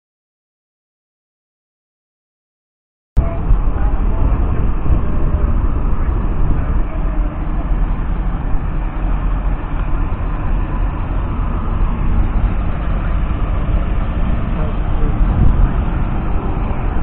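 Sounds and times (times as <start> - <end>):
tractor and baler rumbling: 3.2 - 17.0.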